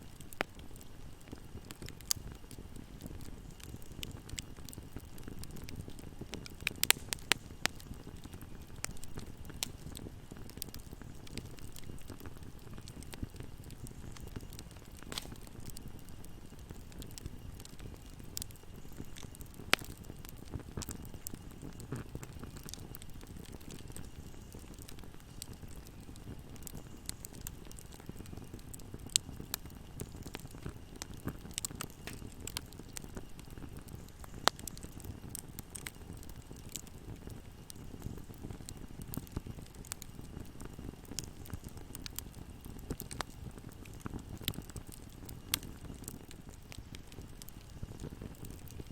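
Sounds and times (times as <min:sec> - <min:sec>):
fire crackling and popping: 0:00.0 - 0:48.9
fire flames rumbling: 0:00.0 - 0:48.9.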